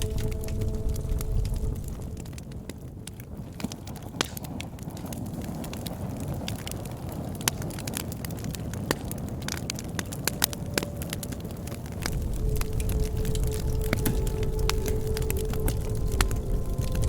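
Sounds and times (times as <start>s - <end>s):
low rumble of burning: 0.0s - 17.0s
wood fire popping and snapping: 0.0s - 17.0s.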